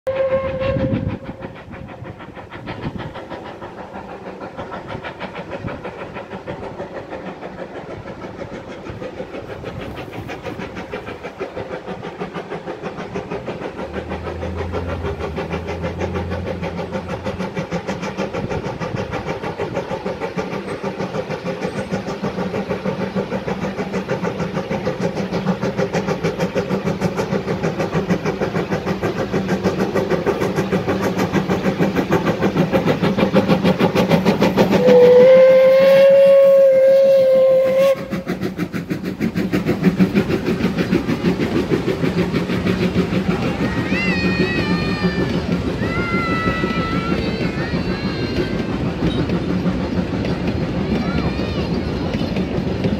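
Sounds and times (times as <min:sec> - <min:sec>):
steam locomotive exhaust beating: 0:00.1 - 0:52.9.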